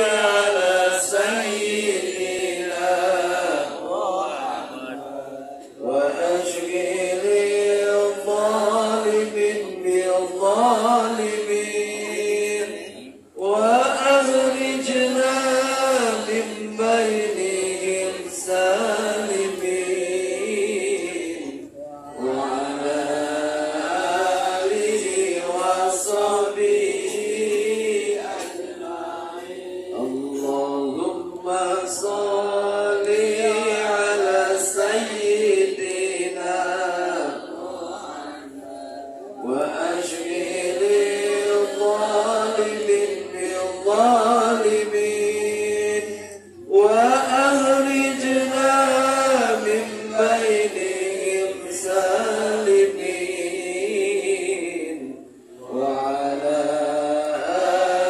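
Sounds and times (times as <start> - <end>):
devotional chanting through microphone: 0.0 - 58.0.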